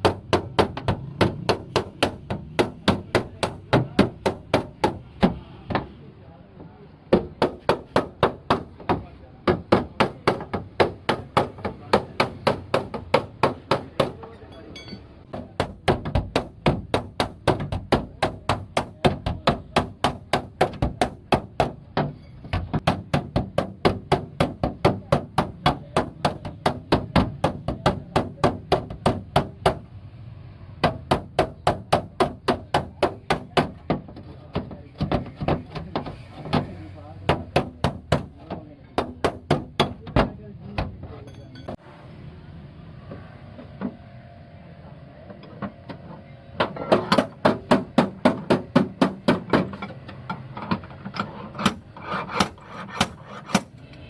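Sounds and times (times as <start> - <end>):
hammer striking car body panel: 0.0 - 5.9, 7.1 - 14.2, 15.3 - 29.9, 30.8 - 41.0, 46.6 - 49.9, 51.6 - 53.8.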